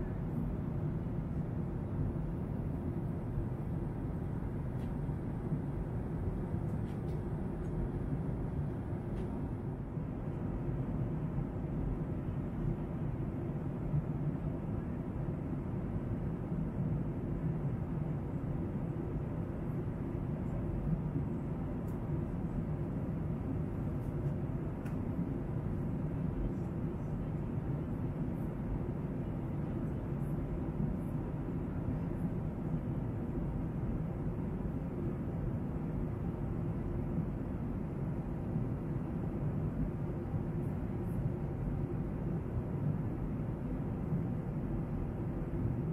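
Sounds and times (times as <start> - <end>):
airliner cabin noise: 0.0 - 45.9.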